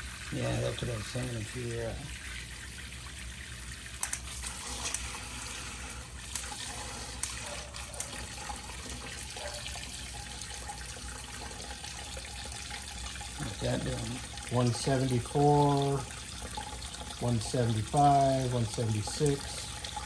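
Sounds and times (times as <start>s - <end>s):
hot water running from outlet: 0.0s - 20.0s.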